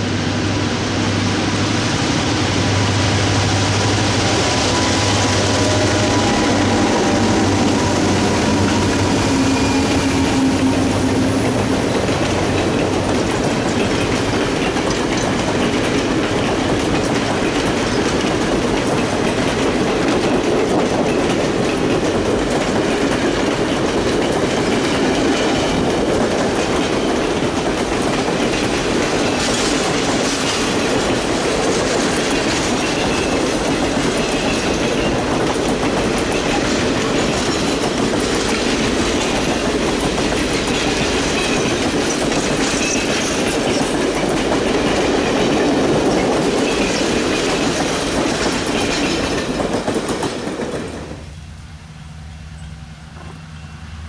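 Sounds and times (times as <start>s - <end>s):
train wheels rumbling on rails: 0.0s - 54.0s
clickety-clack over rail joints: 4.2s - 51.3s, 53.2s - 53.4s.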